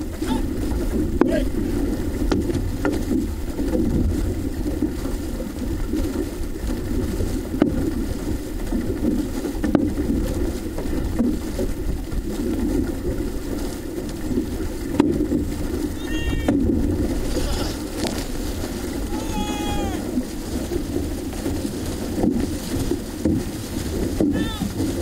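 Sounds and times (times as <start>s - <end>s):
canoe rushing through water: 0.0s - 25.0s.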